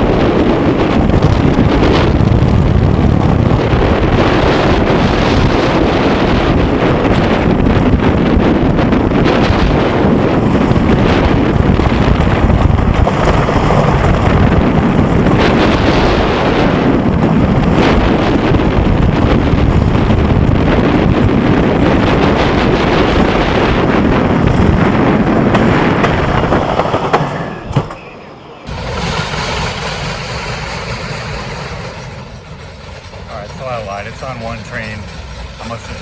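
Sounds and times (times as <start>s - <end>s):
roller coaster rumbling on track: 0.0s - 36.0s
wind rushing over microphone: 0.0s - 36.0s.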